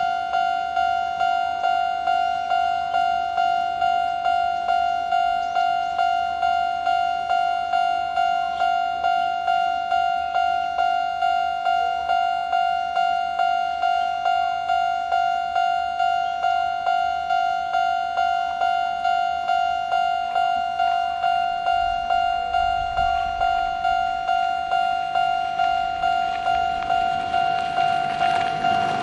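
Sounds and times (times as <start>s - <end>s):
level crossing warning bell: 0.0s - 29.0s.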